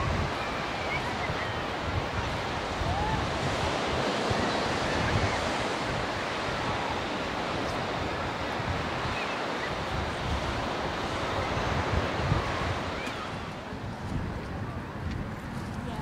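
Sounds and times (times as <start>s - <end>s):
sea surf: 0.0s - 16.0s
wind gusting across microphone: 0.0s - 16.0s.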